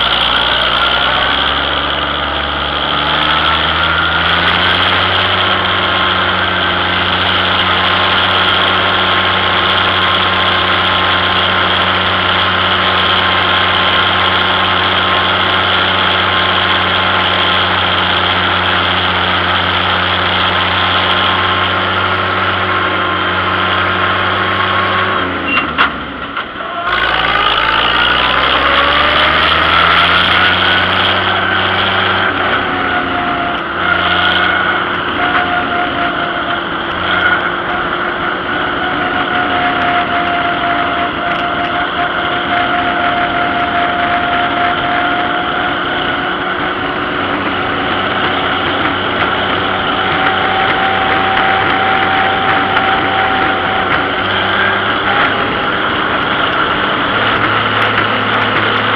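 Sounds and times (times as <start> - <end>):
tractor engine running: 0.0 - 58.9.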